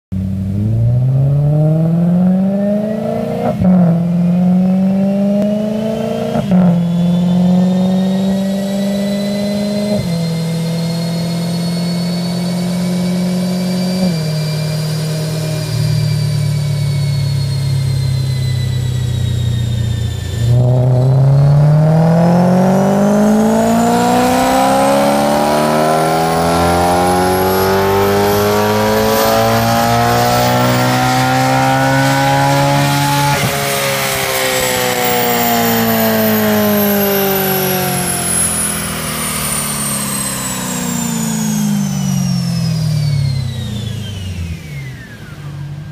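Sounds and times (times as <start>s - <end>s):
car engine revving through gears: 0.1s - 45.9s
thin high whine: 0.2s - 45.9s.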